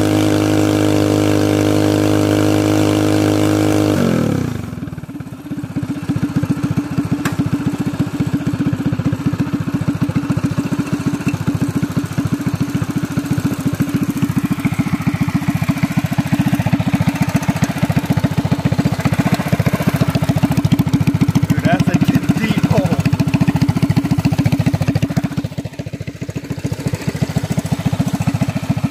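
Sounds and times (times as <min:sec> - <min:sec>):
small engine idling: 0:00.0 - 0:28.9.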